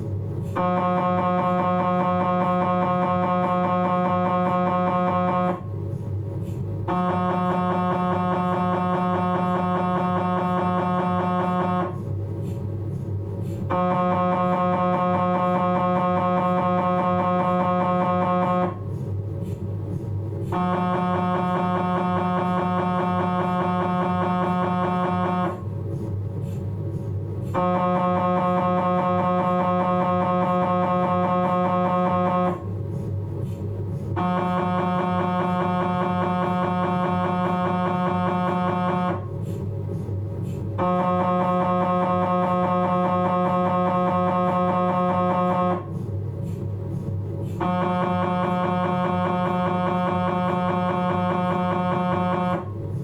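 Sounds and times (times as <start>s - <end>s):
low hum: 0.0s - 53.0s
mri scanner buzzing drone: 0.0s - 53.0s.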